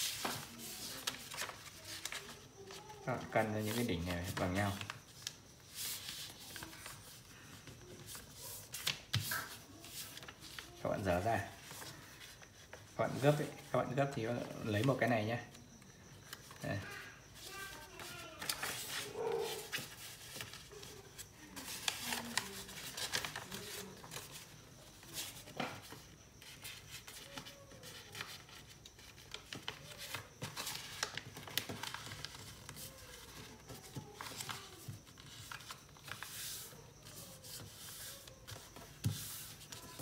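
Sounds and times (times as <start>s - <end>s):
paper folds brushed flat: 0.0s - 13.4s, 17.4s - 40.0s
paper rustling and crinkling: 0.0s - 15.0s, 16.2s - 40.0s.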